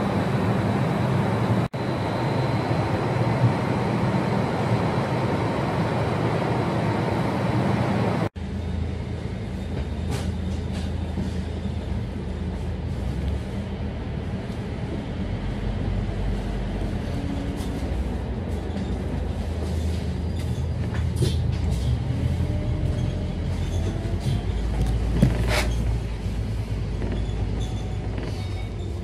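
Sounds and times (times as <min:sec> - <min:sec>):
bus engine droning: 0:00.0 - 0:29.0.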